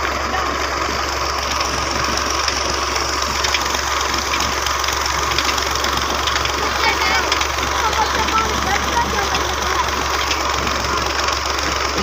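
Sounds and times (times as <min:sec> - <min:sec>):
low engine hum: 0:00.0 - 0:12.0
water pouring into pond: 0:00.0 - 0:12.0.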